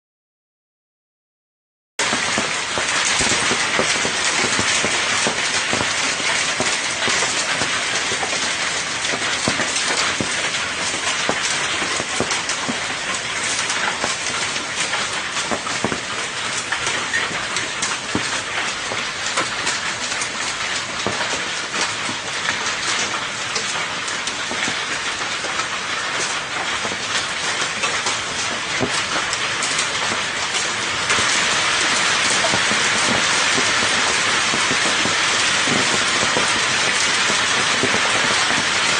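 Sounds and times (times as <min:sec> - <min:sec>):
hail and rain on metal roof: 0:02.0 - 0:38.9.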